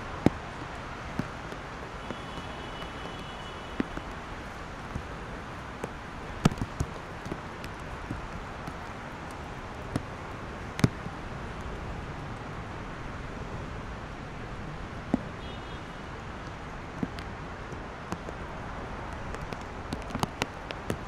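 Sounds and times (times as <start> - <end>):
raindrops tapping near microphone: 0.0 - 13.0, 13.7 - 21.0
city traffic: 0.0 - 21.0.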